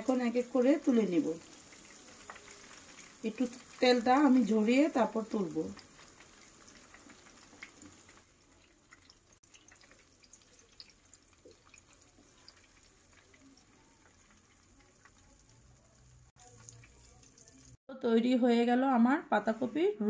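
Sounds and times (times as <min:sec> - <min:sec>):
hot oil crackling and popping: 0:00.0 - 0:17.8.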